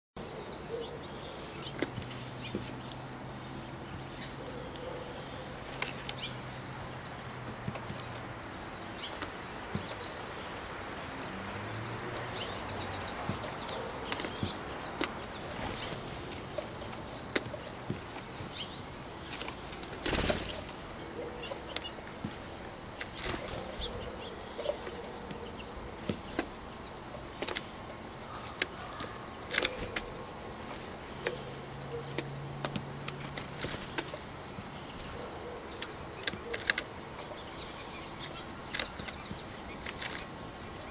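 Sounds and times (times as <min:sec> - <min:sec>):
bird chirps: 0:00.2 - 0:40.9.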